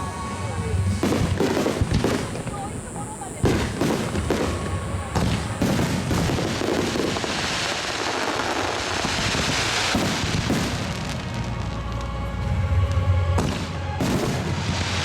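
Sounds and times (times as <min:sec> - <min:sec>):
fireworks bangs: 0:00.0 - 0:11.8, 0:13.4 - 0:15.0
fireworks crackling hiss: 0:00.0 - 0:15.0.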